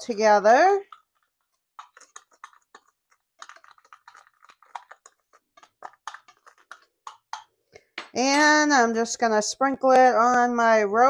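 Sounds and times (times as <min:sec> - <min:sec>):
utensil stirring in a bowl: 0:00.2 - 0:10.4.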